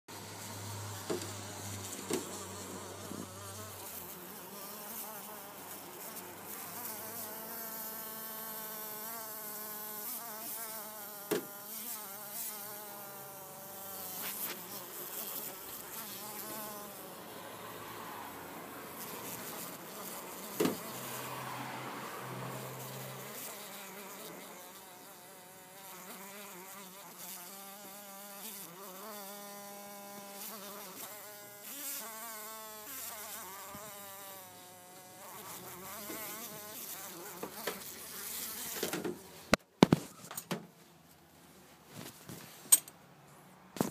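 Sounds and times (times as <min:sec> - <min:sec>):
fly buzzing: 0:00.1 - 0:40.0.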